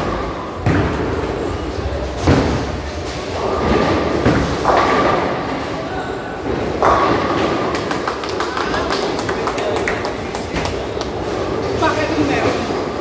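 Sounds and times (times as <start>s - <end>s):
bowling balls rolling: 0.1s - 11.8s.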